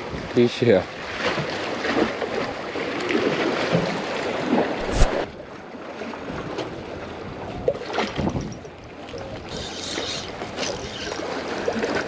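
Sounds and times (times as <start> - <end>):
choppy sea waves: 0.0 - 12.0.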